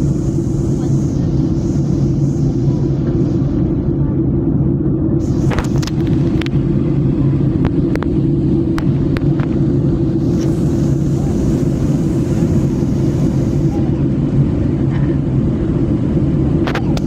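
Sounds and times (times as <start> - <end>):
airliner engine drone: 0.0 - 17.0.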